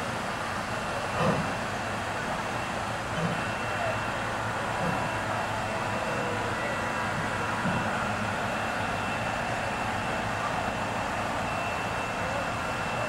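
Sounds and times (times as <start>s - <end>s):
train rumbling over steel bridge: 0.0s - 13.0s.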